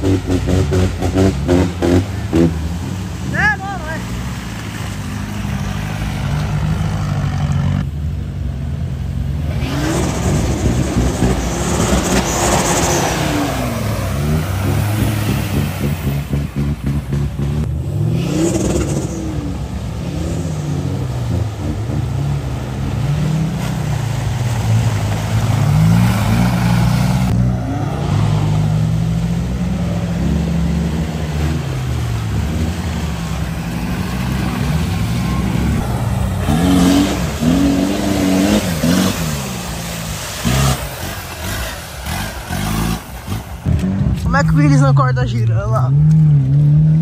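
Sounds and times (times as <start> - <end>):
off-road engine revving: 0.0 - 47.0.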